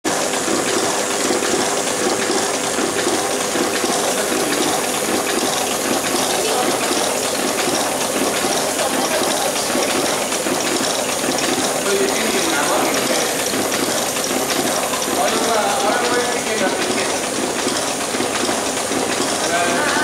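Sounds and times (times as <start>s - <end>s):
machine clattering with hiss: 0.1s - 20.0s.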